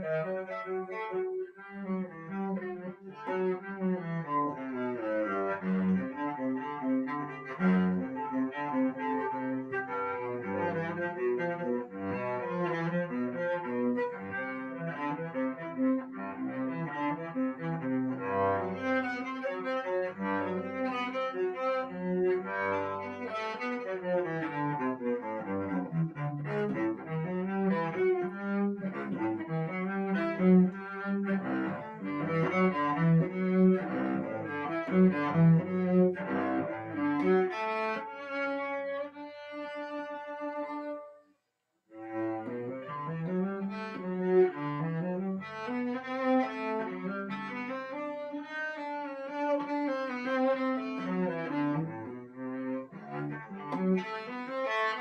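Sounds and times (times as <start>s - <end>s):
cello playing melody: 0.0s - 55.0s.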